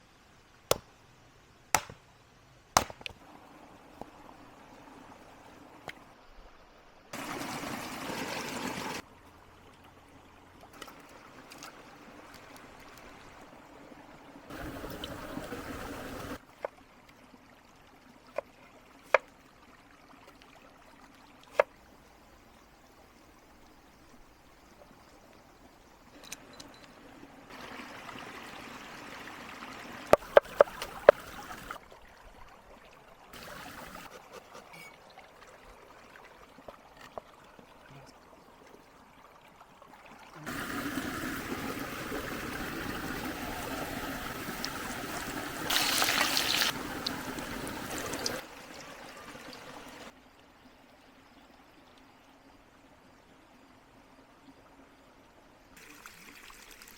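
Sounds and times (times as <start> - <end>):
water trickling and pouring: 3.3 - 52.5, 55.7 - 56.9.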